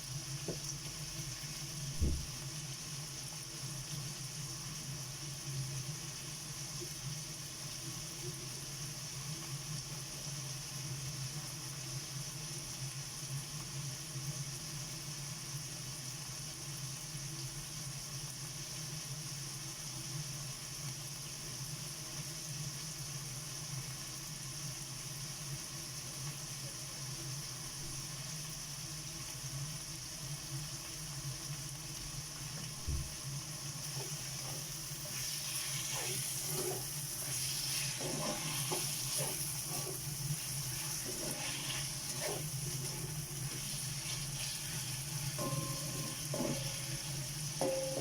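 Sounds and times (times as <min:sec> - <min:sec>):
beef sizzling in a pan: 0:00.0 - 0:48.0
kitchen exhaust fan hum: 0:00.0 - 0:48.0.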